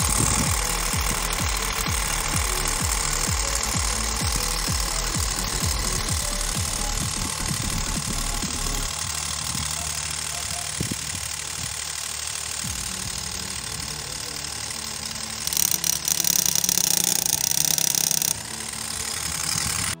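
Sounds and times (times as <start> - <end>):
hissy buzz: 0.0 - 20.0
motor spinning propeller: 0.0 - 20.0.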